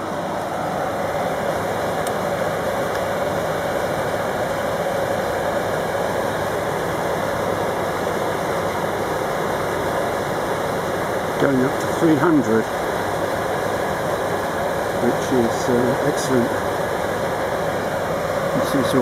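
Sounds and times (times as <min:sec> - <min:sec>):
tumble dryer whirring hum: 0:00.0 - 0:19.0.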